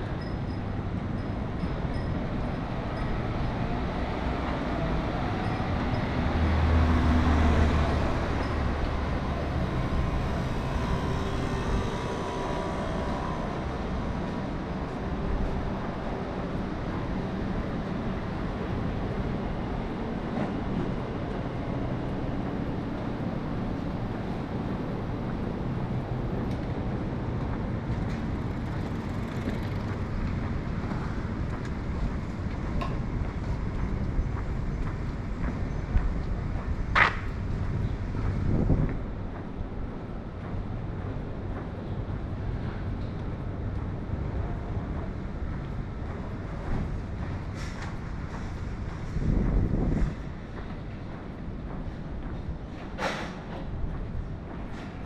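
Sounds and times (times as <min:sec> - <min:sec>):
city street traffic: 0:00.0 - 0:55.0.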